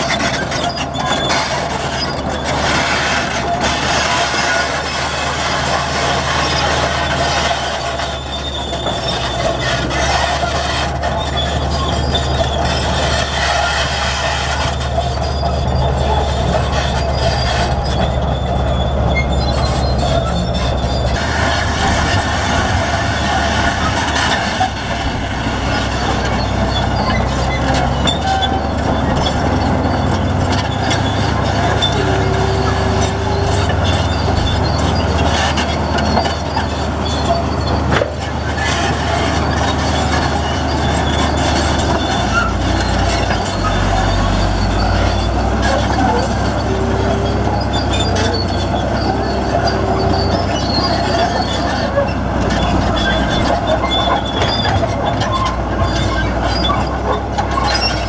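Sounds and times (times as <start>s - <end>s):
bulldozer diesel engine under load: 0.0s - 58.0s
metallic squeals and clatter of tracks: 0.0s - 58.0s.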